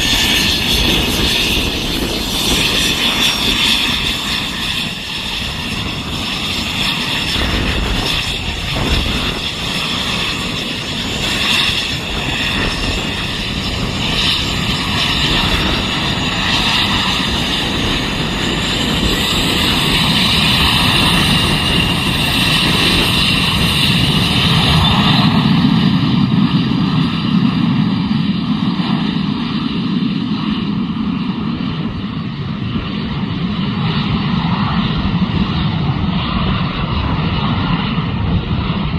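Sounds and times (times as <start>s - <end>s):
deep jet roar: 0.0s - 38.9s
jet engines whining: 0.0s - 38.9s.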